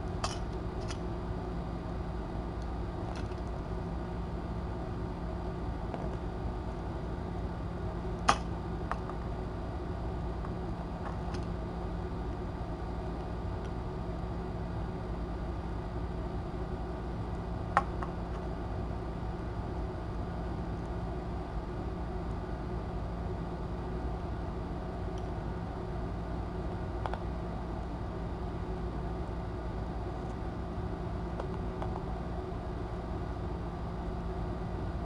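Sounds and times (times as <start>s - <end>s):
faint electrical tone: 0.0s - 35.0s
room hum and hiss: 0.0s - 35.0s.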